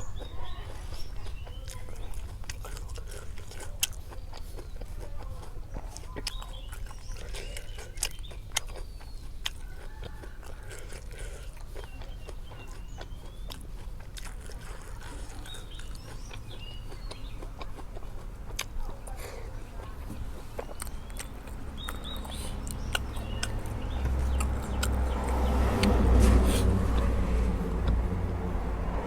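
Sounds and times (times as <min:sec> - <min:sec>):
birds chirping: 0:00.0 - 0:29.0
person chewing crunchy food: 0:00.0 - 0:29.0.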